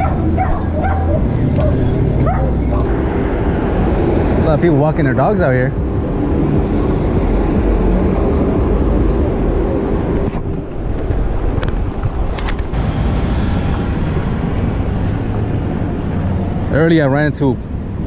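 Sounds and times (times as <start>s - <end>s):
wind rumbling on microphone: 0.0s - 16.8s
passing vehicles: 0.0s - 18.0s.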